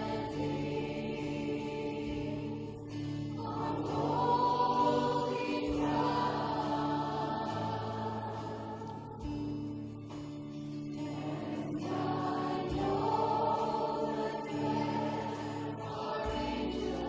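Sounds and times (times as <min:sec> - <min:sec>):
people singing worship song: 0:00.0 - 0:17.0.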